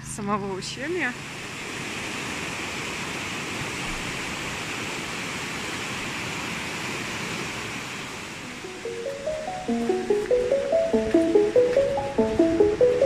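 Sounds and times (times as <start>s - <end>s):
river water rushing: 1.2s - 13.0s.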